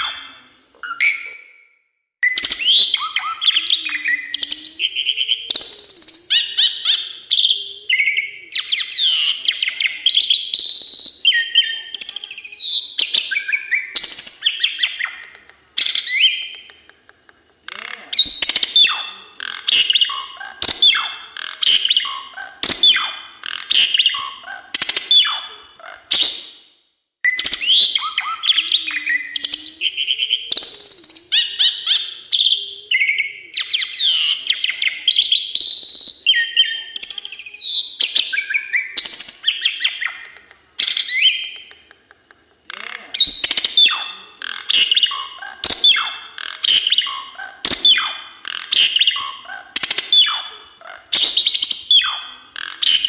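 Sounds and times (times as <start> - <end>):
starling singing: 0.0 - 1.6, 2.2 - 16.8, 17.6 - 26.6, 27.3 - 41.9, 42.6 - 53.0.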